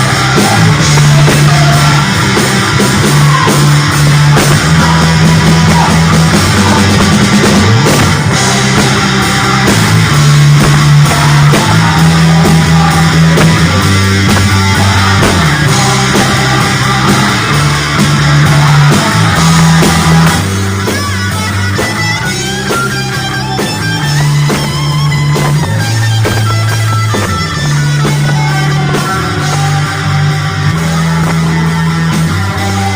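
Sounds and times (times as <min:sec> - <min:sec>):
bass guitar: 0:00.0 - 0:32.9
drum kit: 0:00.0 - 0:32.9
electric guitar: 0:00.0 - 0:32.9.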